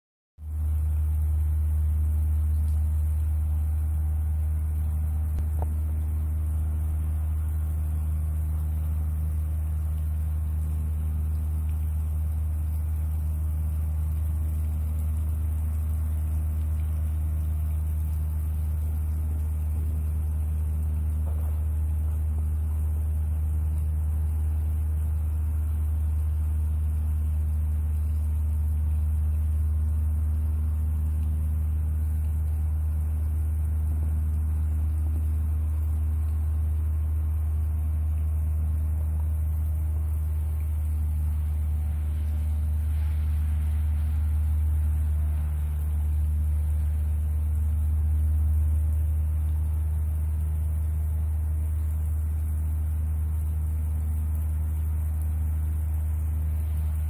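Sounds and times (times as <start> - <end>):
faint higher hums: 0.4 - 57.0
low mechanical hum: 0.4 - 57.0.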